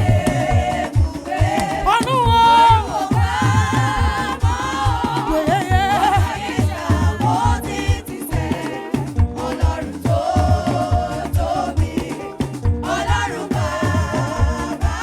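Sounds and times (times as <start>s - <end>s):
drum and bass beat: 0.0s - 15.0s
voices singing gospel: 0.0s - 15.0s.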